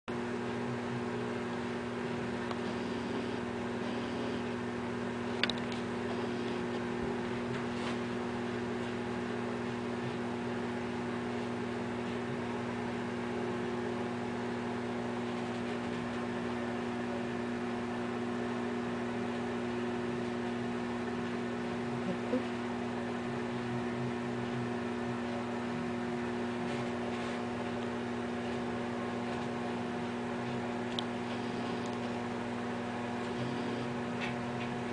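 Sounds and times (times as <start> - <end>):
steady machine hum: 0.1 - 34.9.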